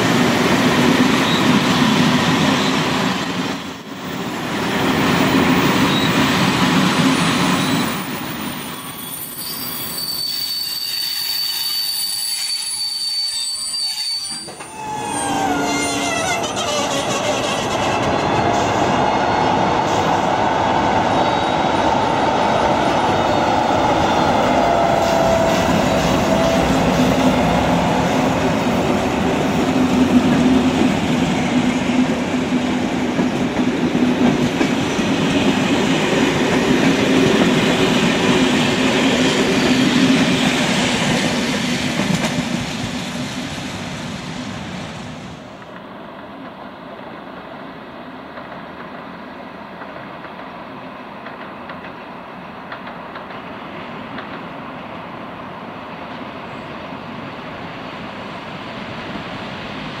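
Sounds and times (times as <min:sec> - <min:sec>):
train coaches rolling on rails: 0:00.0 - 1:00.0.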